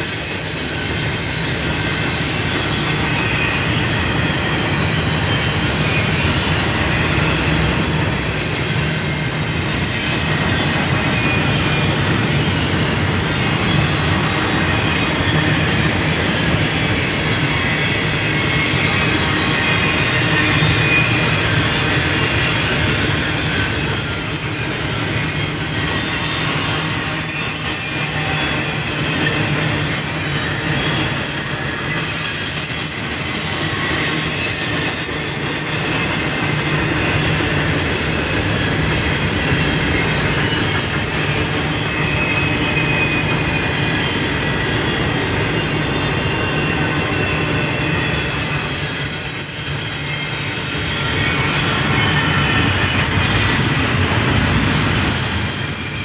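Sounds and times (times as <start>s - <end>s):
high-pitched metal squeals: 0.0s - 56.0s
train wheels rumbling on rail: 0.0s - 56.0s.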